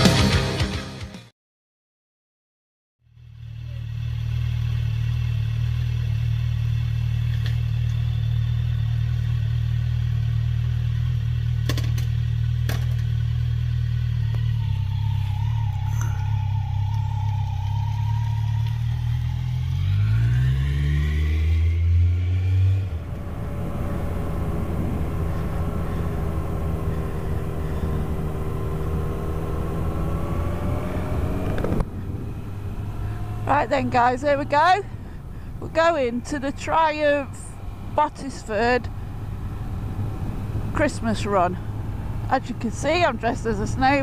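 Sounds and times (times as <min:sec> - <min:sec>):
motorcycle engine idling and revving: 0:03.0 - 0:44.0.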